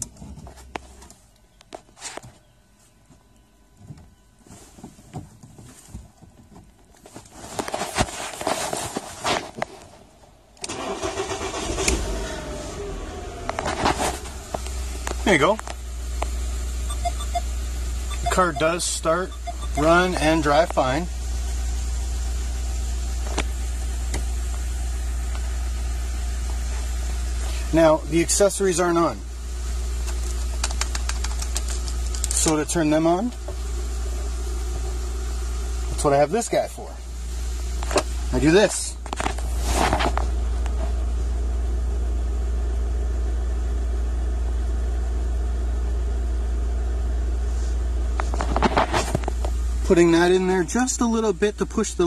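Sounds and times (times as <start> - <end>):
car engine idling: 10.2 - 52.0.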